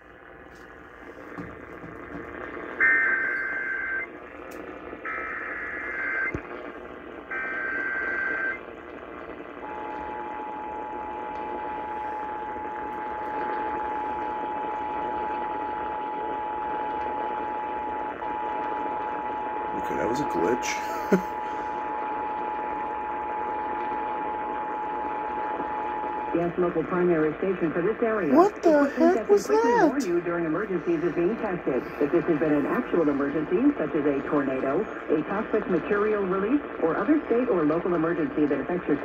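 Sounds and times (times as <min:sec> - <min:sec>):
radio static: 0:00.0 - 0:39.0.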